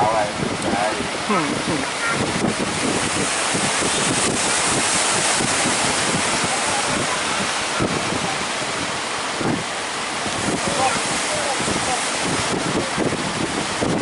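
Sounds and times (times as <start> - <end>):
sea waves and surf washing: 0.0 - 14.0
wind buffeting microphone: 0.0 - 14.0.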